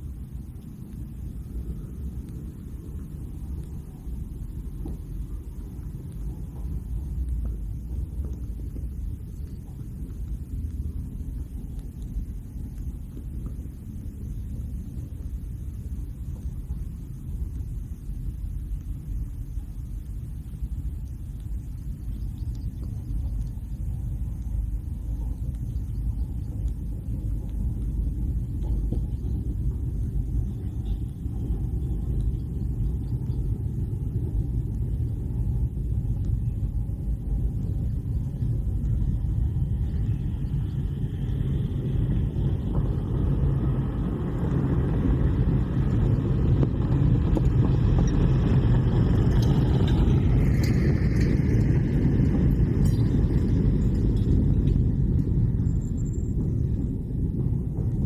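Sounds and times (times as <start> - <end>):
low rumble: 0.0 - 58.0.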